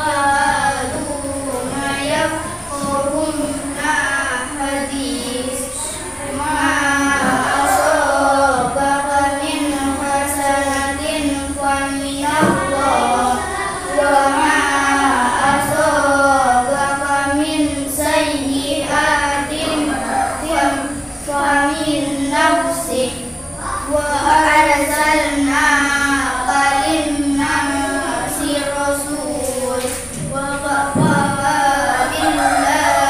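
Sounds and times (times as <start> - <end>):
children chanting melodically: 0.0 - 33.0.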